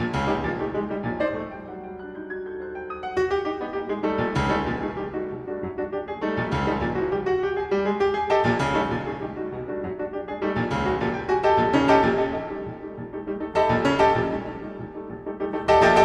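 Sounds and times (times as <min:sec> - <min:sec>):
grand piano fast passages: 0:00.0 - 0:16.0
loud piano chords: 0:00.0 - 0:16.0.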